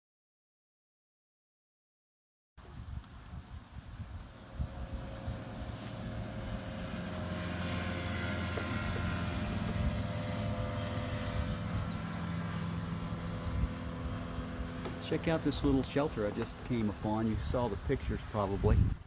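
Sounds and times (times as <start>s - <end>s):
engine drone: 3.2s - 18.6s.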